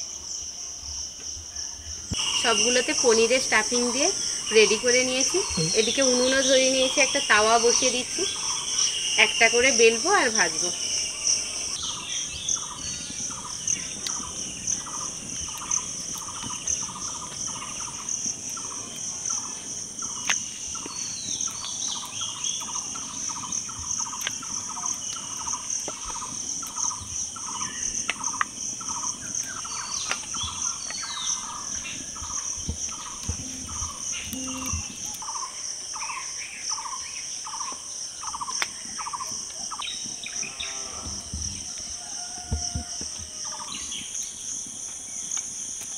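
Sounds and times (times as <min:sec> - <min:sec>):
crickets droning: 0:00.0 - 0:45.9
birds chirping: 0:02.1 - 0:45.4.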